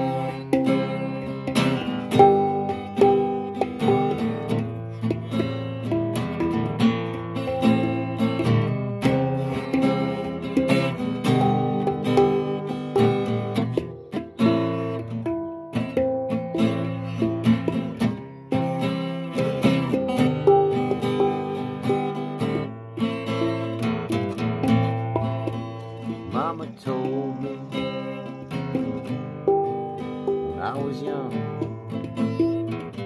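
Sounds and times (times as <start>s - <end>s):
guitar picking arpeggiated chords: 0.0s - 33.0s.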